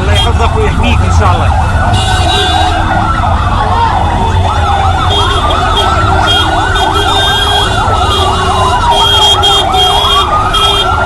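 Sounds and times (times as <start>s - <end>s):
wailing siren: 0.0s - 11.0s
yelping siren: 0.0s - 11.0s.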